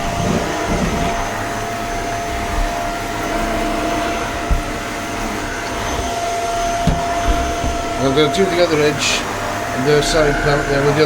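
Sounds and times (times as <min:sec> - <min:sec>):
low bump: 0:00.0 - 0:09.4
stick vacuum motor whine: 0:00.0 - 0:11.0.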